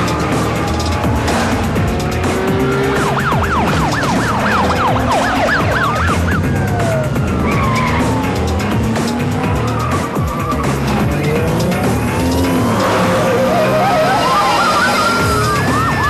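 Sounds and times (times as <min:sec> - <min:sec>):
car engines rumbling: 0:00.0 - 0:16.0
police siren yelping and wailing: 0:02.0 - 0:16.0.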